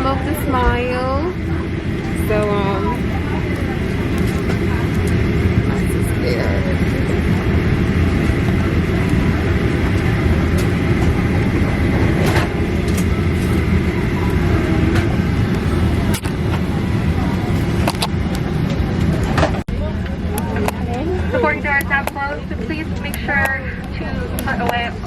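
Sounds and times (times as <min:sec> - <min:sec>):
airliner cabin rumble and hiss: 0:00.0 - 0:25.0.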